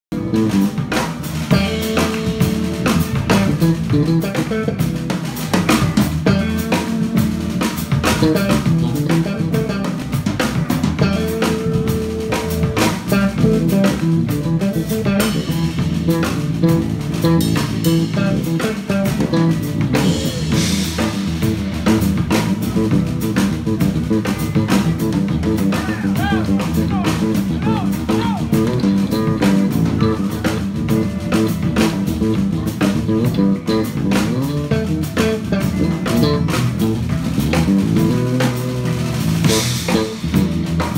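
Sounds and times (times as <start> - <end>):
drum kit beat: 0.1 - 40.9
electric bass: 0.1 - 40.9.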